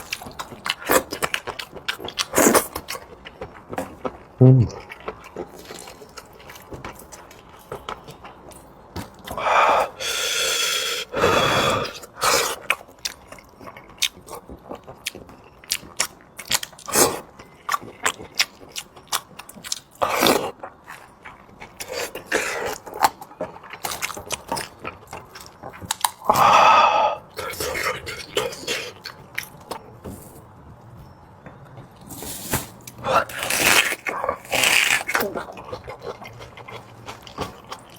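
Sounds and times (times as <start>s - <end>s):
chewing and biting: 0.0s - 9.4s, 11.9s - 26.4s, 27.3s - 29.9s, 32.2s - 37.9s.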